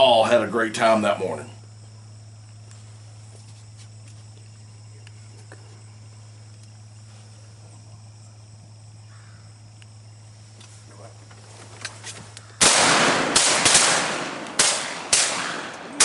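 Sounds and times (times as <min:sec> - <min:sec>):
constant low hum: 0:00.0 - 0:16.0
insects chorus: 0:00.0 - 0:16.0.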